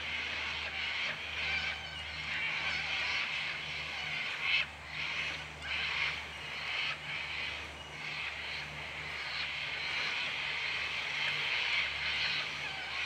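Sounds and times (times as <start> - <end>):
birds making rough calls: 0.0 - 13.0.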